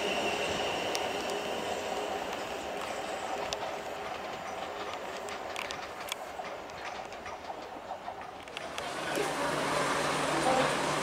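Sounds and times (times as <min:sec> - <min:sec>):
electric train running: 0:00.0 - 0:11.0
wheels clicking over rail joints: 0:00.5 - 0:11.0.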